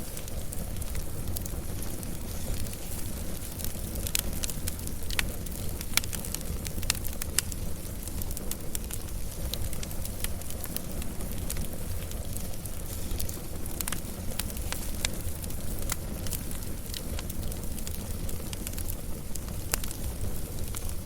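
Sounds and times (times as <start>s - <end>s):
fire crackles and pops: 0.0s - 21.0s
wood fire rumble: 0.0s - 21.0s.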